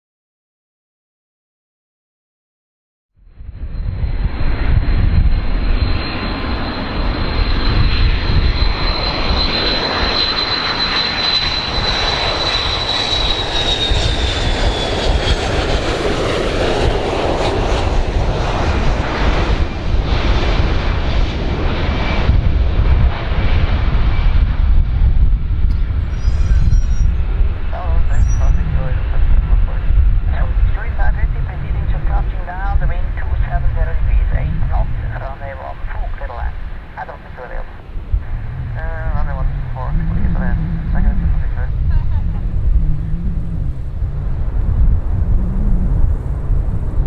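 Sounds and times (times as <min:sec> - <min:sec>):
airplane engines running: 0:03.2 - 0:47.0.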